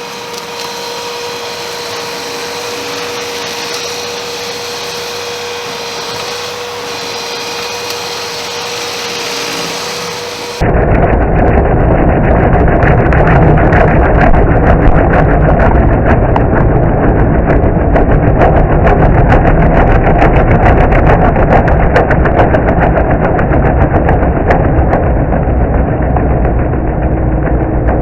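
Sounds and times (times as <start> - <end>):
stump grinder engine running: 0.0 - 28.0.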